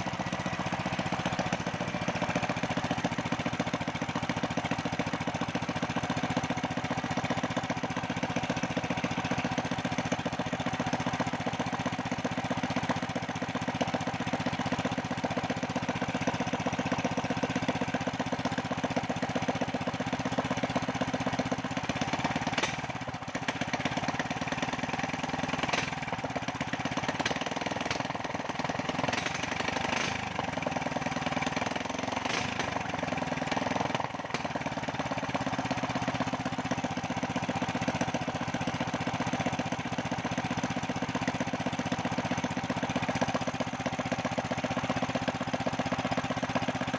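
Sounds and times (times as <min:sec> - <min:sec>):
small petrol engine revving: 0:00.0 - 0:46.9.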